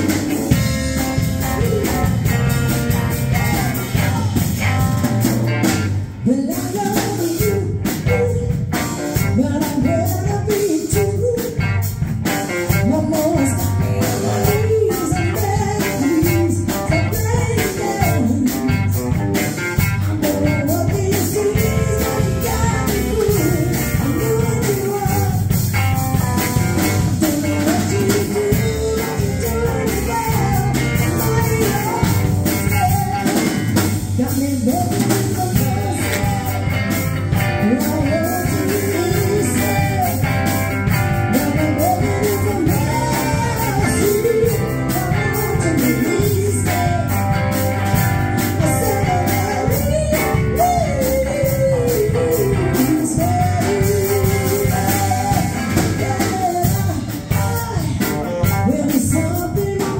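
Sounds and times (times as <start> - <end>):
live rock band playing: 0.0 - 59.9
woman singing lead: 0.0 - 59.9.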